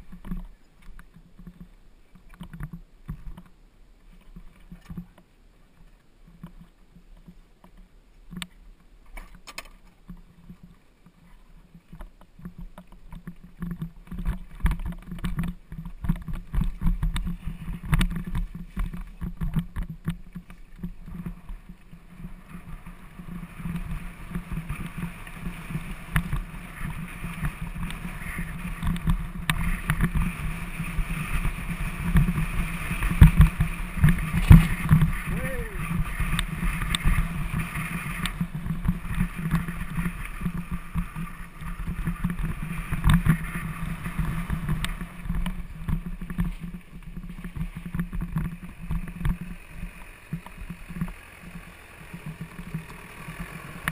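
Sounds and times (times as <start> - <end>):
bike rattling on rough track: 0.0 - 53.9.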